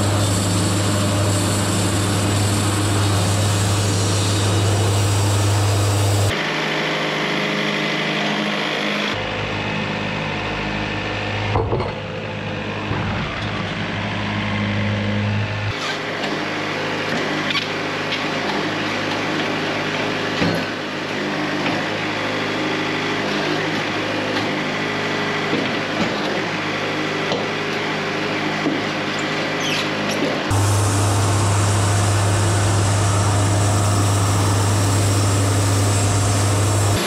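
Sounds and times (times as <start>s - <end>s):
sawmill machine drone: 0.0s - 37.0s.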